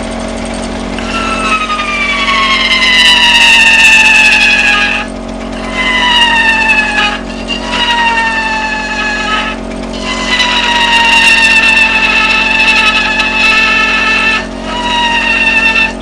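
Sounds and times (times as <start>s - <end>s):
stirling engine whining: 0.0s - 16.0s.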